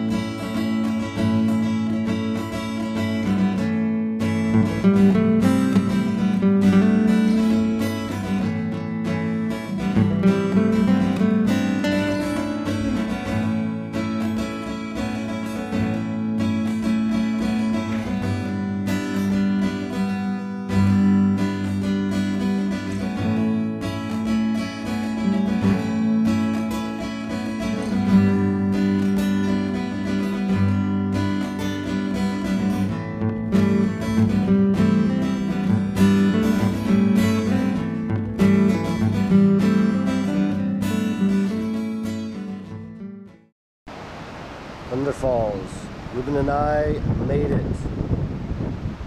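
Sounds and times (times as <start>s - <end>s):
acoustic guitar strumming: 0.0s - 43.5s.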